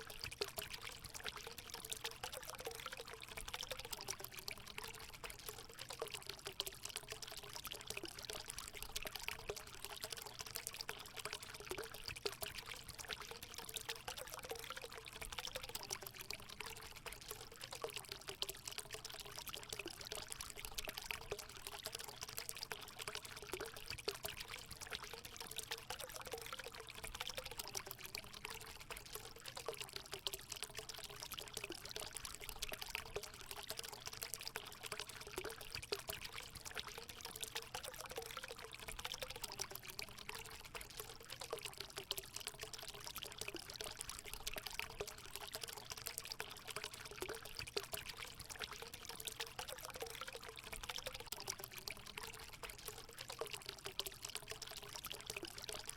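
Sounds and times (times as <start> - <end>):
water gurgling: 0.0 - 55.9
water pouring into pool: 0.0 - 55.9.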